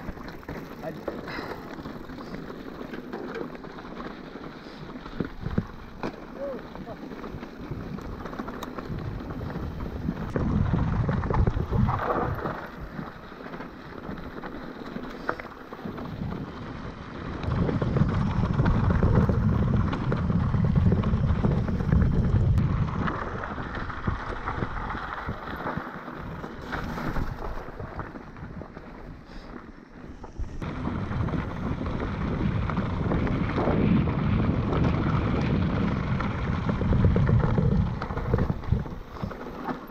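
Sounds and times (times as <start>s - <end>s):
bike rumbling over dirt track: 0.0s - 39.9s
wind buffeting microphone: 4.0s - 29.4s, 30.2s - 39.9s.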